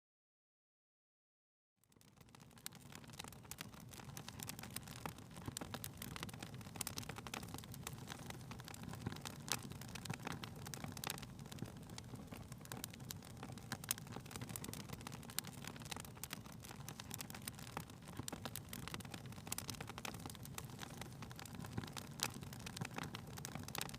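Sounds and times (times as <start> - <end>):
wood fire crackling: 1.8 - 23.9.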